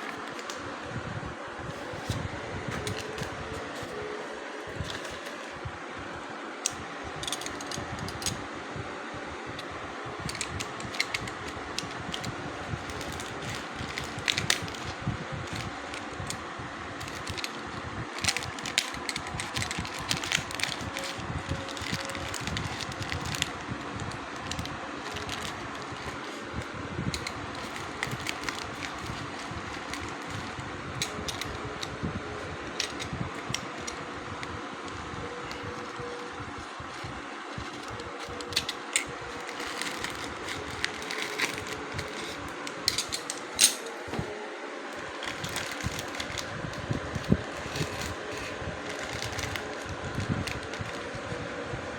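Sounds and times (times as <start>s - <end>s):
fan whirring: 0.0s - 51.9s.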